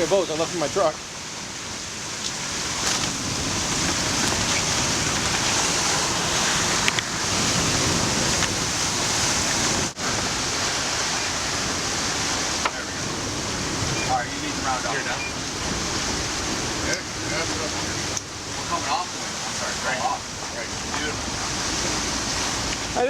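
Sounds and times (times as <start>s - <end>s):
waves: 0.0s - 23.0s
wind buffeting microphone: 0.0s - 23.0s
wind rushing: 0.0s - 23.0s.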